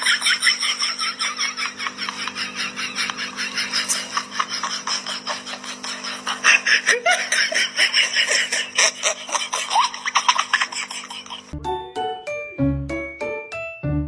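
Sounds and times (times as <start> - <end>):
person laughing in breathy bursts: 0.0 - 11.5
steady low hum: 0.0 - 11.6.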